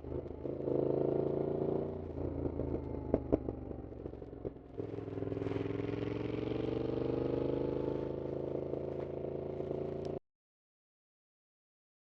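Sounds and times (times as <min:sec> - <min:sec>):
motorcycle engine pulling under throttle: 0:00.0 - 0:10.2.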